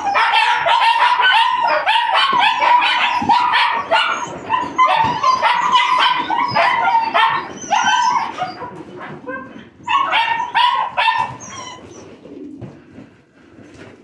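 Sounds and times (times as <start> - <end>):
puppies yipping and barking: 0.0 - 12.3.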